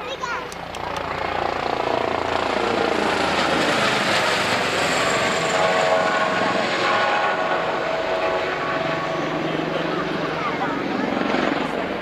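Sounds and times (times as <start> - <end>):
helicopter rotor and engines: 0.0 - 12.0.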